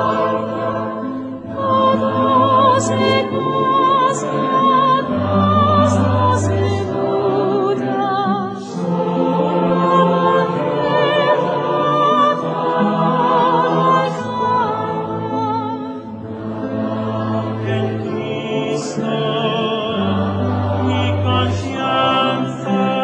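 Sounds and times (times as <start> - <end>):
choir singing: 0.0 - 23.0.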